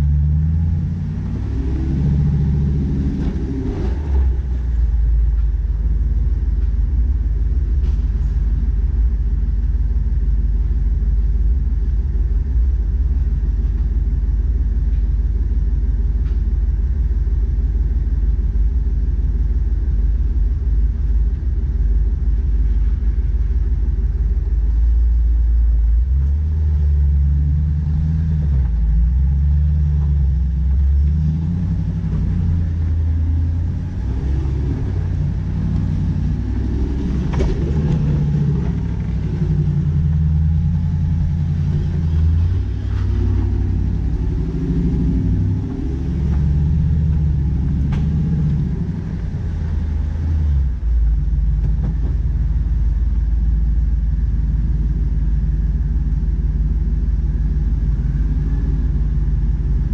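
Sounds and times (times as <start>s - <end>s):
car engine at low revs: 0.0s - 59.9s.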